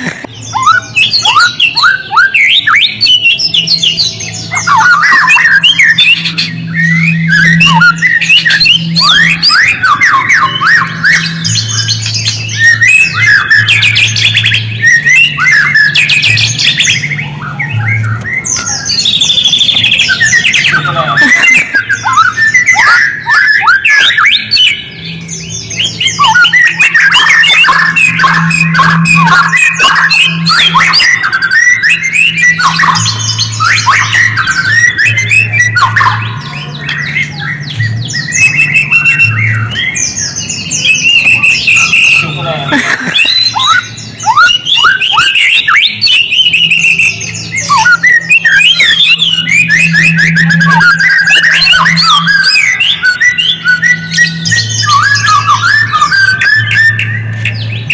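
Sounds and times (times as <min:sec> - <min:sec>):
songbird singing chirps and trills: 0:00.0 - 0:57.9.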